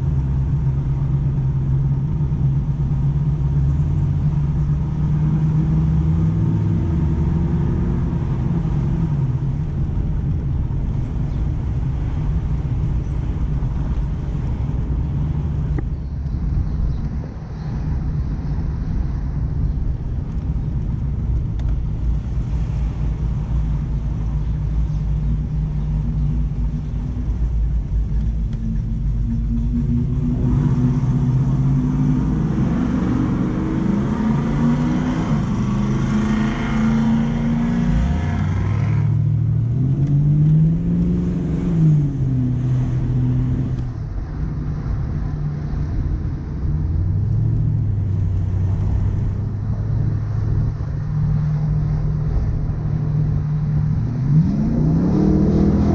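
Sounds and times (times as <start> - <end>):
car engine driving: 0.0 - 55.9.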